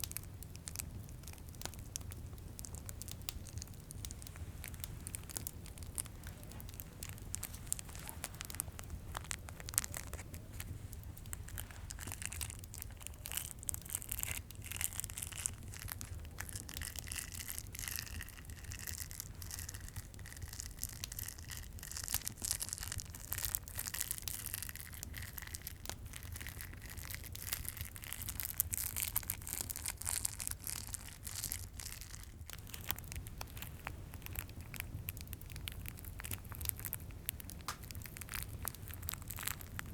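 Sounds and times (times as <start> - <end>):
fireplace burning: 0.0 - 39.9
plastic wrappers crinkling: 0.0 - 39.9.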